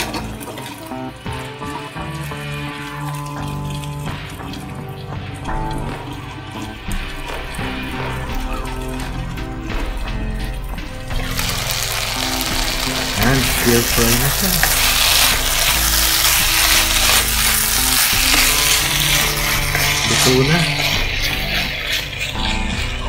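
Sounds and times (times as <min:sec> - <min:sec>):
spatula stirring and scraping: 0:00.0 - 0:23.0
stir-fry sizzling in a pan: 0:00.0 - 0:23.0.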